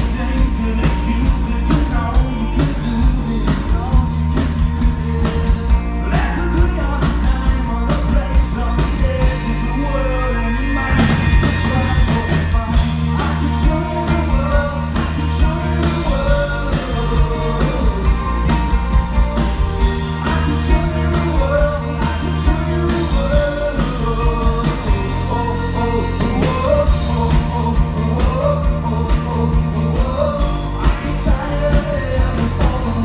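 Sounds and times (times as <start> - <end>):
bass guitar: 0.0 - 33.0
electric guitars: 0.0 - 33.0
man singing: 0.0 - 33.0
steady drum beat: 0.0 - 33.0.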